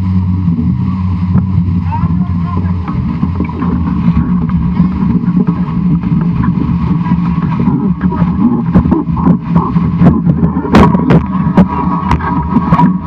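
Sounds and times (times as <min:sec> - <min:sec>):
steady hum: 0:00.0 - 0:13.0
water rushing past hull: 0:00.0 - 0:13.0
wind buffeting microphone: 0:00.0 - 0:13.0.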